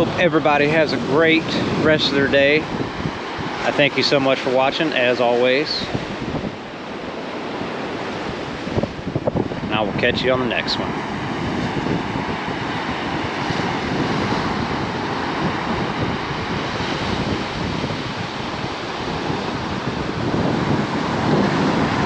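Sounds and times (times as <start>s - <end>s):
ocean surf washing onto beach: 0.0s - 22.0s
wind on microphone: 0.0s - 22.0s.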